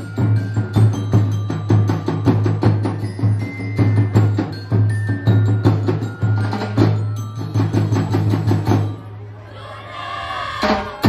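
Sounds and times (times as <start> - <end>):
percussion music with drums: 0.0 - 9.3, 10.4 - 11.0.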